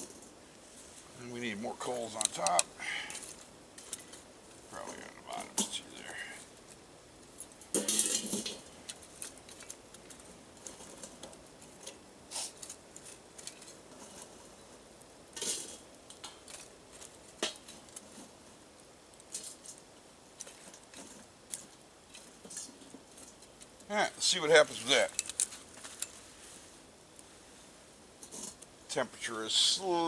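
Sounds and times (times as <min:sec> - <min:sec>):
coals clinking on metal camp oven: 0:00.0 - 0:30.0.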